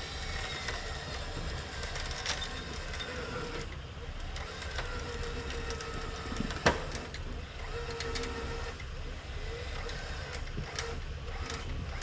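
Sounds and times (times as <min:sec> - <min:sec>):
engine whine: 0:00.0 - 0:12.0.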